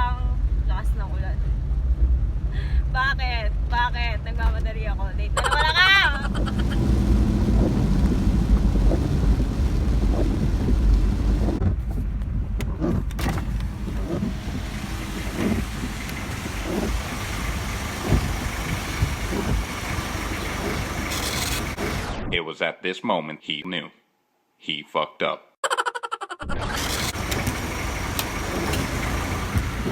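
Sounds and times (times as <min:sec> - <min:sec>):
car engine and road rumble: 0:00.0 - 0:22.3, 0:26.5 - 0:29.9.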